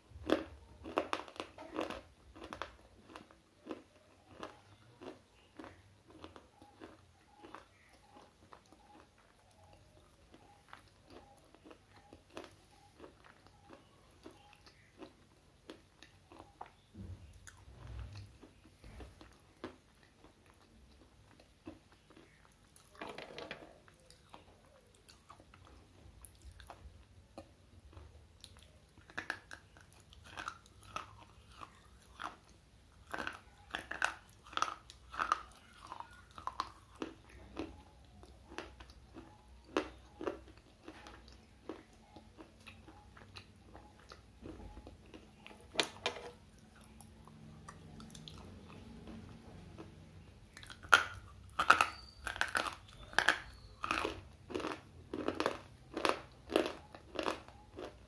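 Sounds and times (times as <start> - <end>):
gritty chewing crunches: 0.0 - 58.0.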